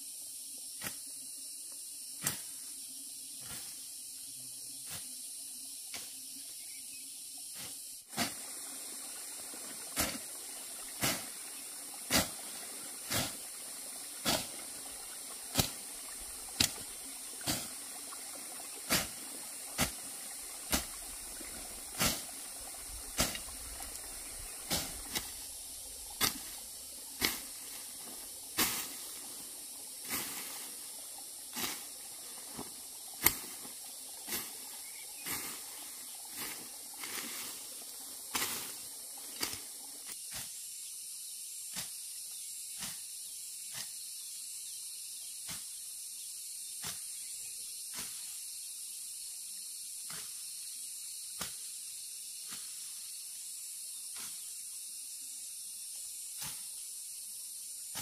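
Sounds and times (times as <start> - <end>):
constant high hiss: 0.0 - 58.0.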